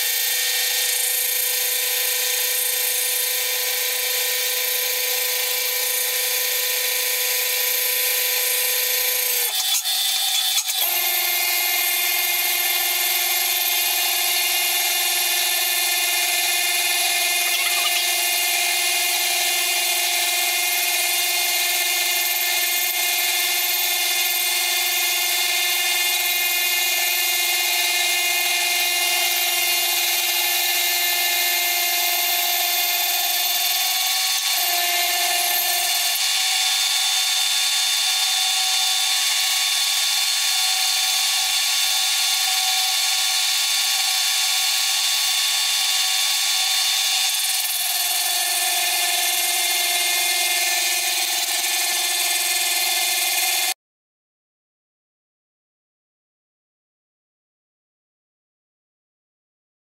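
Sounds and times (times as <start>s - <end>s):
milling machine whine: 0.1s - 53.7s.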